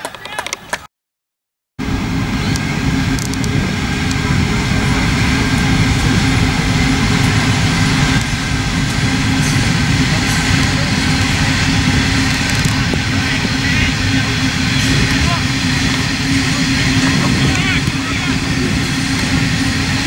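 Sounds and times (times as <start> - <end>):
diesel locomotive rumbling: 1.8 - 20.0.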